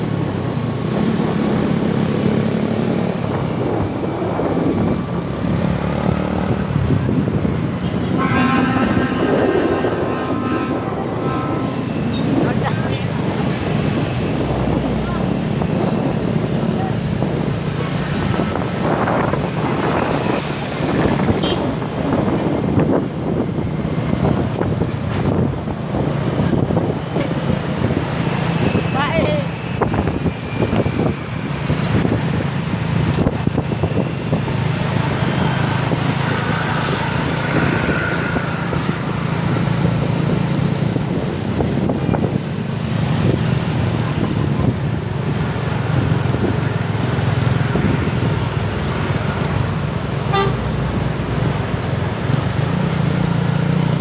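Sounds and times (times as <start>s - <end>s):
road traffic rumbling: 0.0s - 54.0s
wind buffeting microphone: 0.0s - 54.0s.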